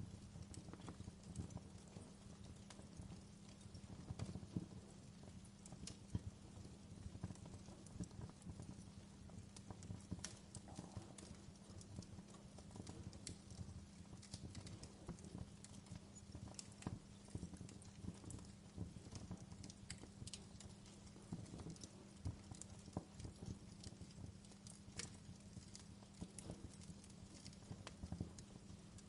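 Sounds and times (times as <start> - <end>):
low steady fire rumble: 0.0 - 29.0
wood fire crackling and popping: 0.0 - 29.0.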